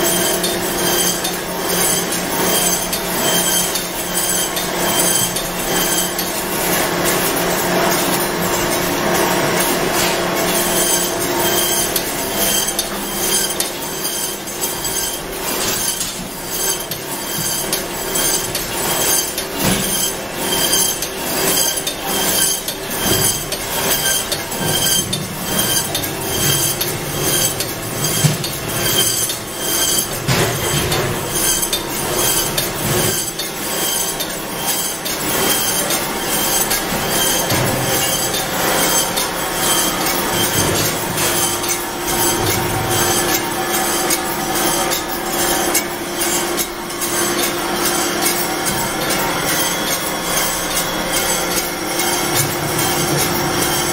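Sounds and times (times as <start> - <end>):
rhythmic metallic clatter of conveyor: 0.0 - 53.9.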